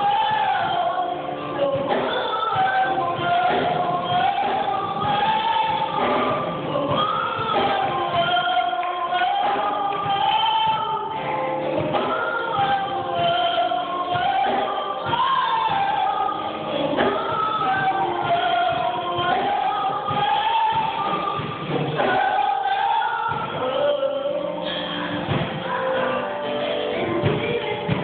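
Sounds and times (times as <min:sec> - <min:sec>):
woman singing gospel song: 0:00.0 - 0:28.0.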